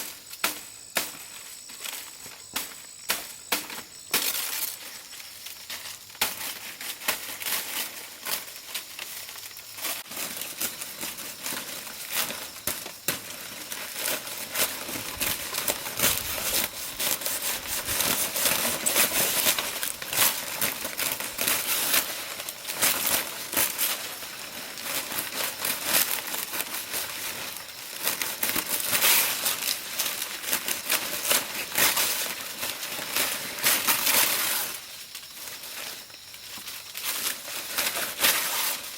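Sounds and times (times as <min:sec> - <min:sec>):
dry leaves rustling and crackling: 0:01.0 - 0:38.9.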